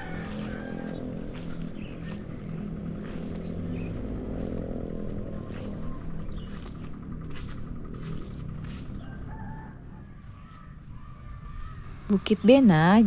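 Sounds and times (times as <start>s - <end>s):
engine running low: 0.0s - 13.0s.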